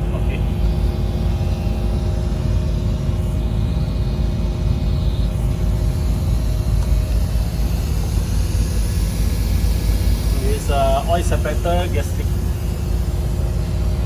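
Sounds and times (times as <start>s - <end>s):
faint constant hum: 0.0s - 14.0s
low mechanical rumble: 0.0s - 14.0s.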